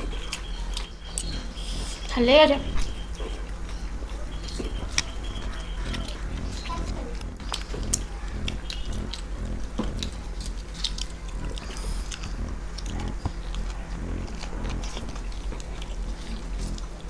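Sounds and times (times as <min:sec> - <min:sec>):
people chewing and biting: 0:00.0 - 0:17.0.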